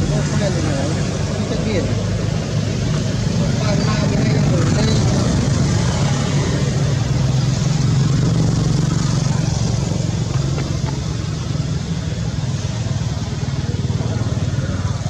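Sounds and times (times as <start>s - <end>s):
engine pulsing hum: 0.0s - 15.0s.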